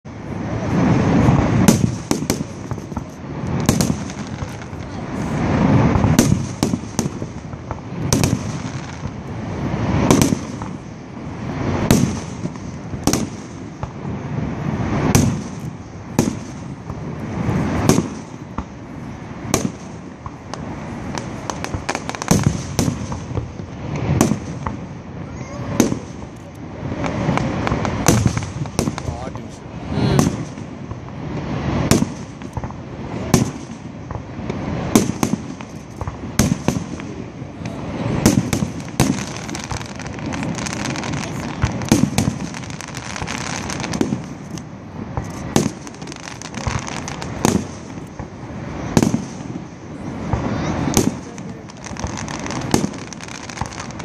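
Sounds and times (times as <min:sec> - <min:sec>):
fireworks booming: 0:00.0 - 0:54.0
fireworks cracking: 0:00.0 - 0:54.0.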